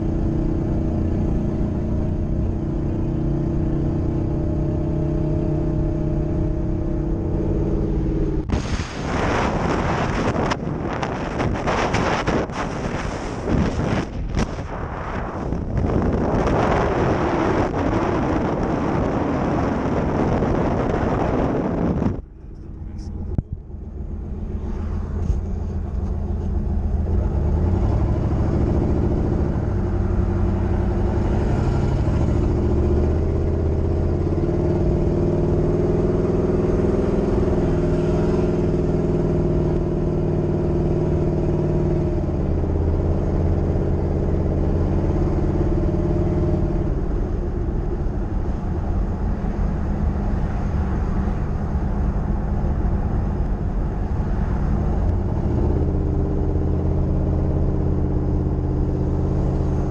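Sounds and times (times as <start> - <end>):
car engine running while driving: 0.0 - 59.9
road rumble: 0.0 - 59.9.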